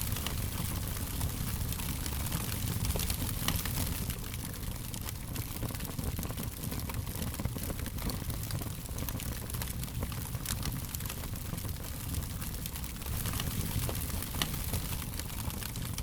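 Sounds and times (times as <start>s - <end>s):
fire crackling: 0.0s - 16.0s
low rumble and hiss: 0.0s - 16.0s.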